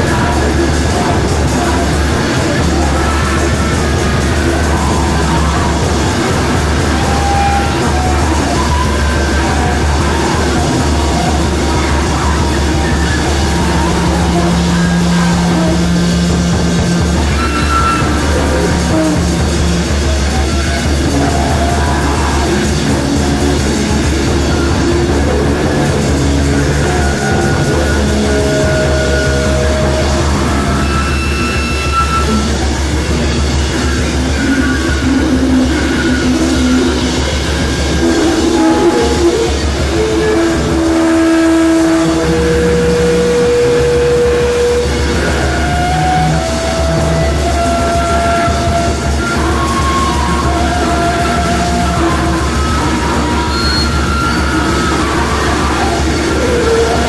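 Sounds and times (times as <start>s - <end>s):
distorted electric guitar drone: 0.0s - 57.0s
held guitar tones: 0.0s - 57.0s.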